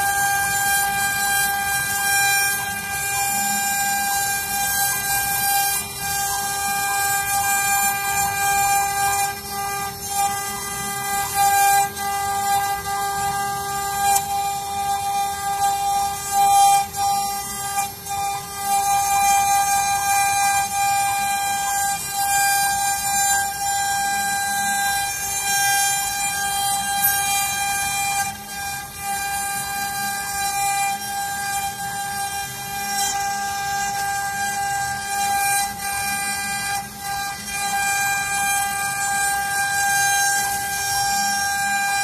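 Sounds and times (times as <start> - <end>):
router spindle whine: 0.0 - 42.0.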